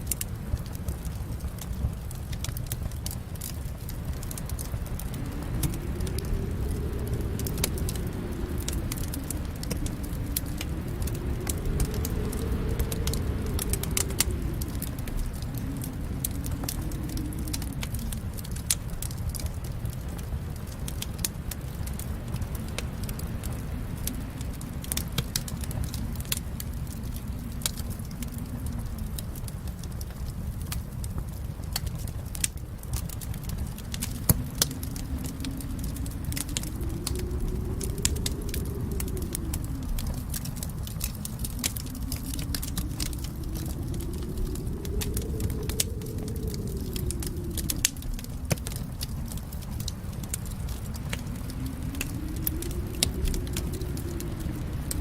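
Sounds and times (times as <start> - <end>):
low rumble: 0.0 - 55.0
wood fire crackling: 0.0 - 55.0
low hum rising and falling: 2.0 - 29.5, 33.0 - 55.0.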